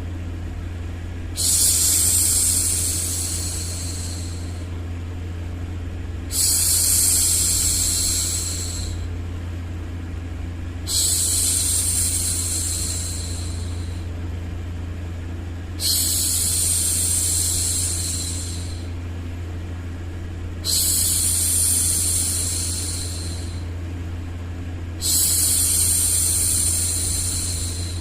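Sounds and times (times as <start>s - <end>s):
low white noise rumble: 0.0s - 28.0s.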